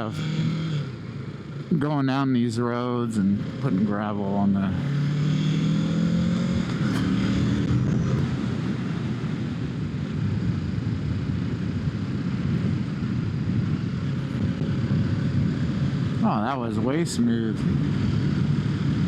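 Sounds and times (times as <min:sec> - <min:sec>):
motorcycle engine running: 0:00.0 - 0:19.0
wind rushing over microphone: 0:02.6 - 0:19.0.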